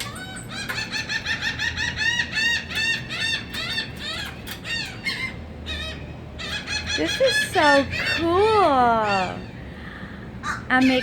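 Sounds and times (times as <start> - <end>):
flock of birds calling: 0.0 - 11.0.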